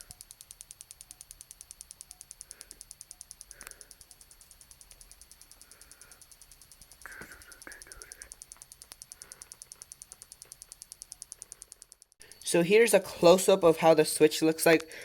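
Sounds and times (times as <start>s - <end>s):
rapid high ticking: 0.0s - 15.0s.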